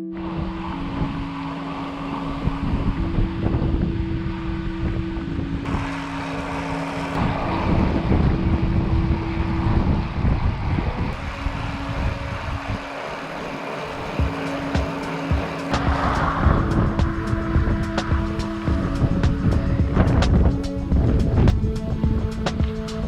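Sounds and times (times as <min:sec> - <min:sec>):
background music: 0:00.0 - 0:23.0
wind buffeting microphone: 0:00.0 - 0:23.0.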